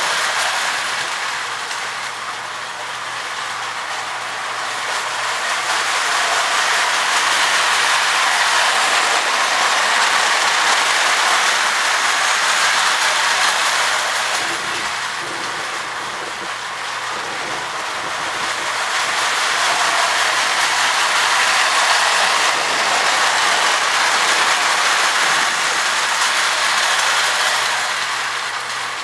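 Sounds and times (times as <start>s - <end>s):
toy train clatter and whir: 0.0s - 29.0s.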